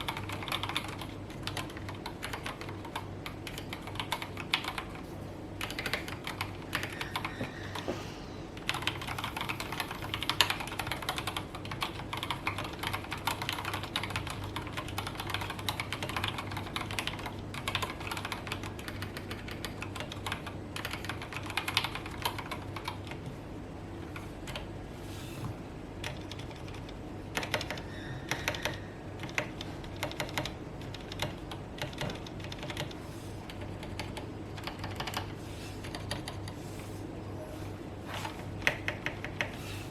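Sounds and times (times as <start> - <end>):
mechanical keyboard typing: 0.0 - 5.0, 5.6 - 7.3, 8.6 - 23.2, 26.0 - 36.6, 38.6 - 39.6.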